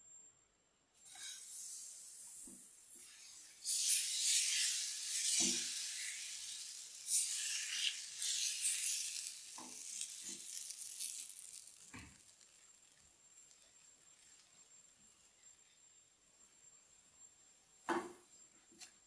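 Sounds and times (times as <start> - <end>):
batter sizzling in a frying pan: 1.0 - 18.1.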